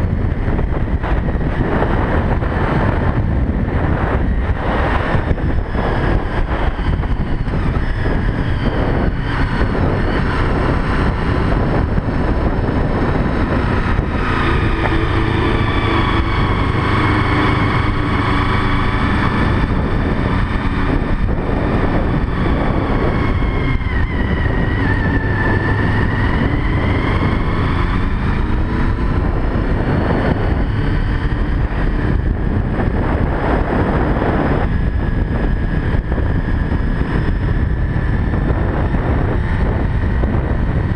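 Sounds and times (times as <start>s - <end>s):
motorcycle engine running: 0.0s - 40.9s
wind rush on microphone: 0.0s - 40.9s.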